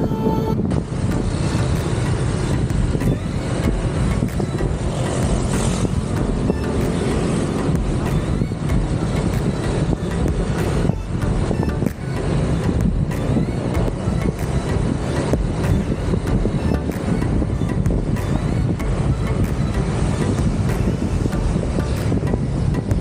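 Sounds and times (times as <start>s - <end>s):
motorcycle engine and road noise: 0.0s - 23.0s.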